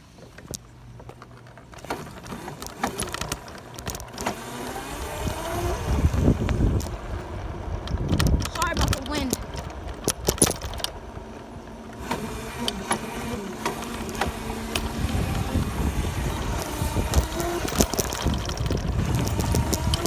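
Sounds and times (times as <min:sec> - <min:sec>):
dirt bike motor humming: 0:00.0 - 0:20.0
wind buffeting microphone: 0:02.3 - 0:20.0.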